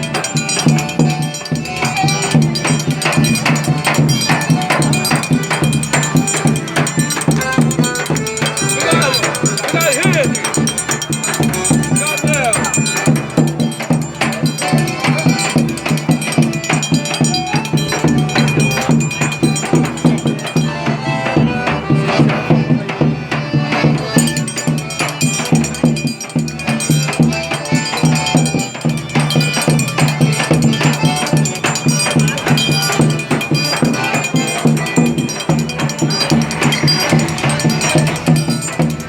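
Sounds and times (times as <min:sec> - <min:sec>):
lively music with fast percussion: 0:00.0 - 0:39.0.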